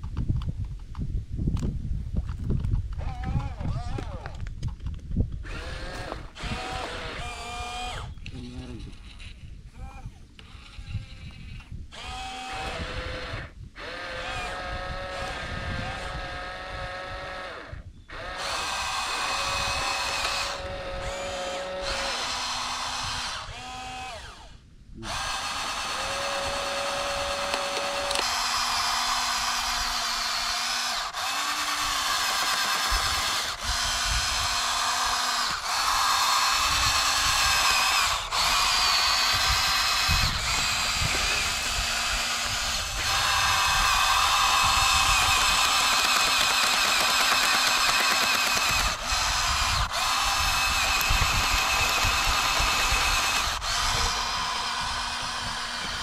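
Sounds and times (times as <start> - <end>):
small electric motors whining: 5.4 - 56.0.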